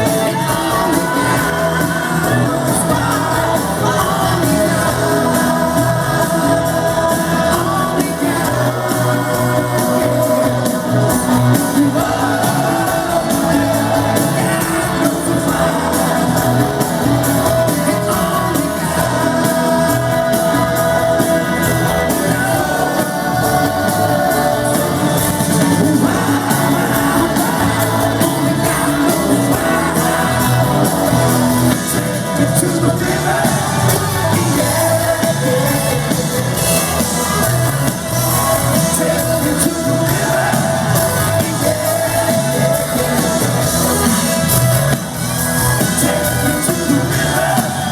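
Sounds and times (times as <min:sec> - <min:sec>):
live rock band playing: 0:00.0 - 0:47.9
person singing: 0:00.0 - 0:47.9.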